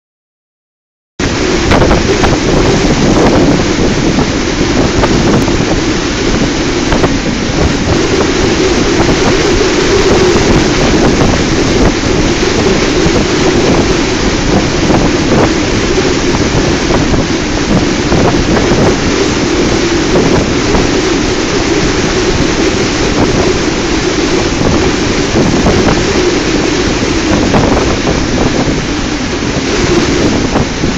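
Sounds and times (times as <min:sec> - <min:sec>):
rough sea rushing: 0:01.2 - 0:30.9
storm wind on microphone: 0:01.2 - 0:30.9.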